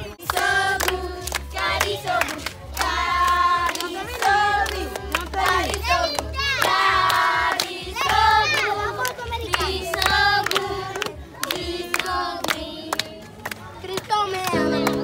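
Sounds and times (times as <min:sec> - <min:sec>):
children and women singing: 0:00.0 - 0:13.6
hand claps: 0:00.2 - 0:15.0.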